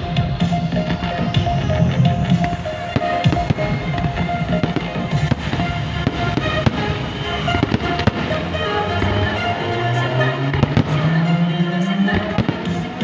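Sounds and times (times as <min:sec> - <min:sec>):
fireworks bangs and crackles: 0:00.0 - 0:13.0
music playing: 0:00.0 - 0:13.0.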